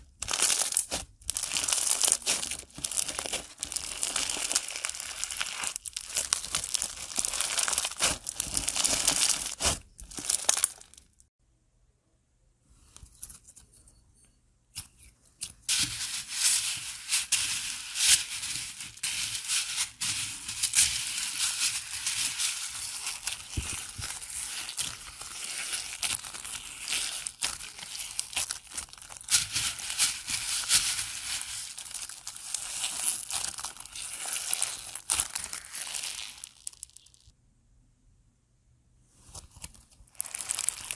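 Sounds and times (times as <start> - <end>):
foam beads rustling and popping: 0.0 - 11.2, 15.4 - 37.3, 40.1 - 40.9
slime squeezed crackling: 0.2 - 11.1, 15.7 - 37.3, 40.1 - 40.9.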